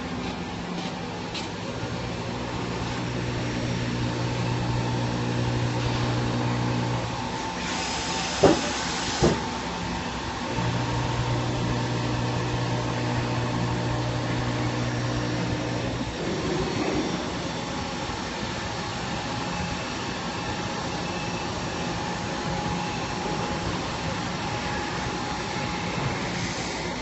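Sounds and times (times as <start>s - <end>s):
milling machine hum: 0.0s - 27.0s.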